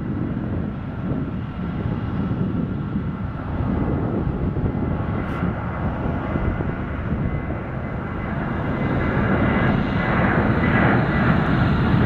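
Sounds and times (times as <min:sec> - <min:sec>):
faint high engine whine: 0:00.0 - 0:12.0
jet engines rumbling at low power: 0:00.0 - 0:12.0.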